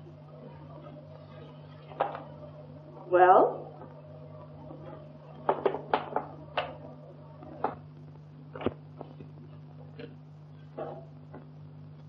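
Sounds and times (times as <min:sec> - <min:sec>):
film soundtrack hum: 0:00.0 - 0:12.0.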